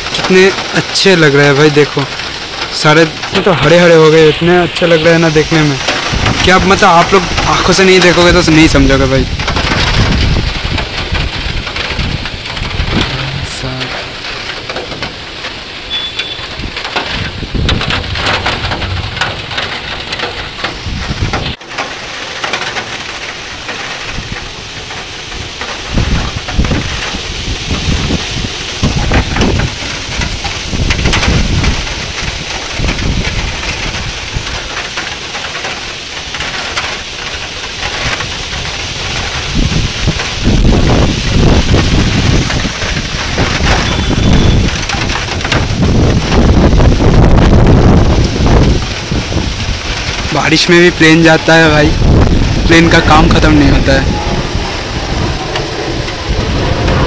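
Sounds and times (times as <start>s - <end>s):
rain falling: 0.0s - 57.0s
wind rumbling on microphone: 0.0s - 57.0s.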